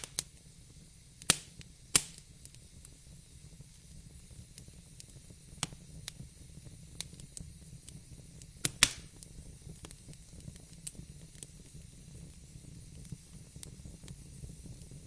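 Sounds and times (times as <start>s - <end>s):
fire rumble and hiss: 0.0s - 15.0s
wood fire popping and snapping: 0.0s - 15.0s.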